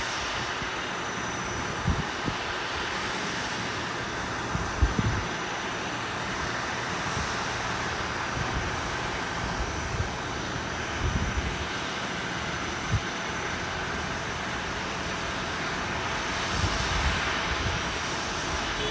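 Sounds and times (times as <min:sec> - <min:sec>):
aircraft noise: 0:00.0 - 0:18.9.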